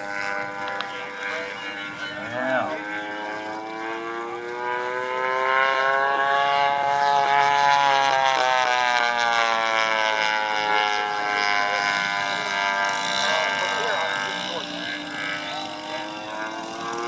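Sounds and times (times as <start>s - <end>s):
model plane engine running: 0.0s - 17.0s.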